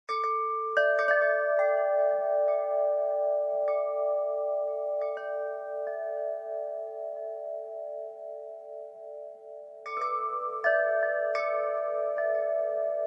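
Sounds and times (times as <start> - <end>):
wind chimes ringing: 0.1 - 13.0.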